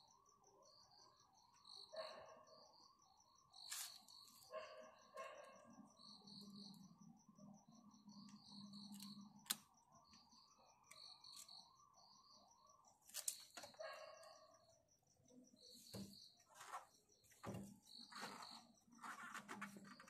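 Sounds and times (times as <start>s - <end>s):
faint high-pitched chirping: 0.0s - 20.0s.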